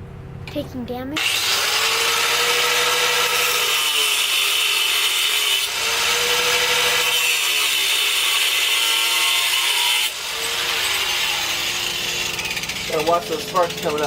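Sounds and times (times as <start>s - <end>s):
angle grinder cutting steel: 1.2s - 14.0s
grinder motor running free: 1.2s - 14.0s.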